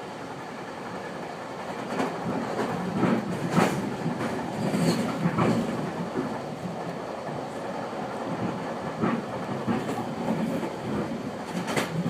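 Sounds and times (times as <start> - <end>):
train wheels rumbling on rails: 0.0 - 12.0
track clacks: 0.4 - 12.0.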